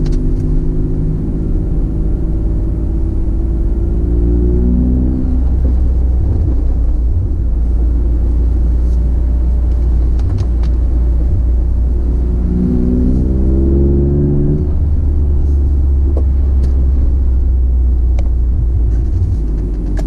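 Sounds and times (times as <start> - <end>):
car exhaust low rumble: 0.0 - 20.0.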